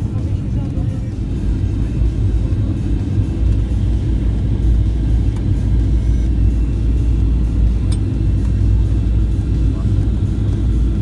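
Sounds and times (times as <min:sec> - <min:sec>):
jet engines rumbling: 0:00.0 - 0:11.0
rushing air in cabin: 0:00.0 - 0:11.0.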